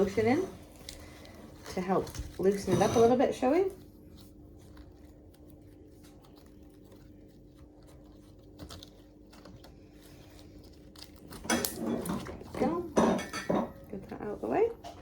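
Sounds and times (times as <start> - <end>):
slime squishing by hand: 0.0 - 13.1.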